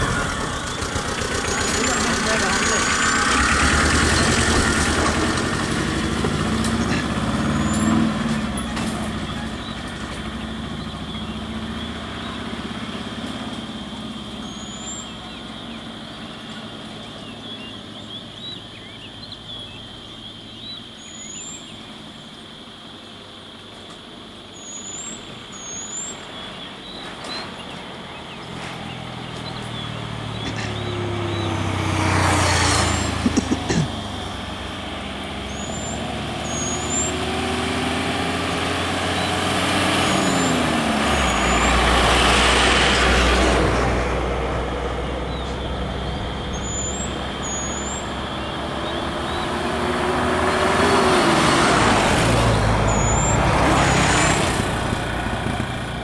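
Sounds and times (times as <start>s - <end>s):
diesel truck and bus engines: 0.0s - 56.0s.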